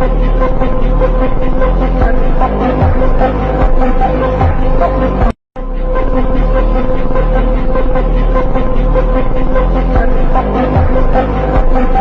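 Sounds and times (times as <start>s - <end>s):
dark dramatic background music: 0.0s - 12.0s.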